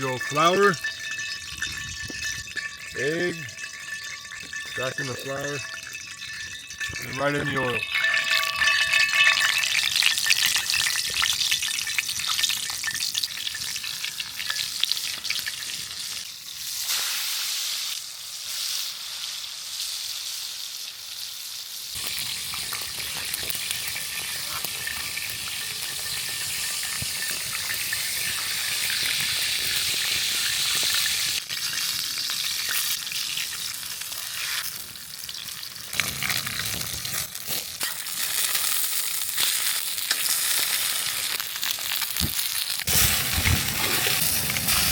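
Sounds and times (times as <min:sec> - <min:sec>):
steaks sizzling in hot oil: 0:00.0 - 0:44.9.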